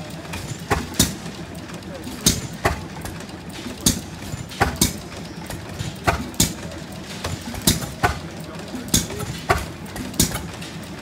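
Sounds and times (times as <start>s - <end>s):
stationary gas engine exhaust pops: 0.0s - 11.0s.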